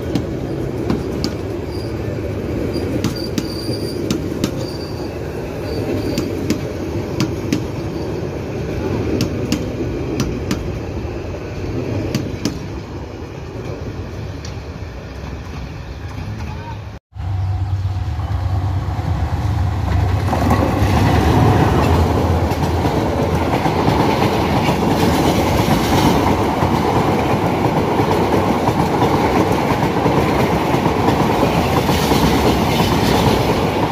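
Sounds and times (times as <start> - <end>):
passenger train passing: 0.0 - 33.9.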